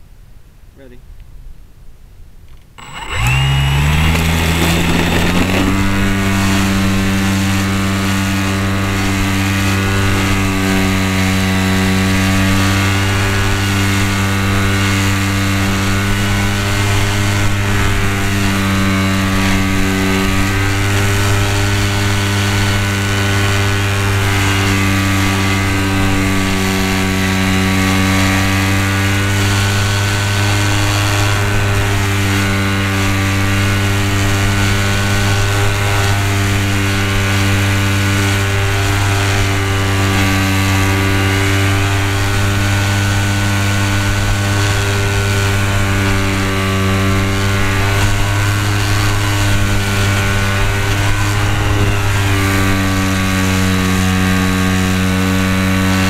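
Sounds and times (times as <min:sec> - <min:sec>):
model plane motor and propeller: 0:02.5 - 0:56.0.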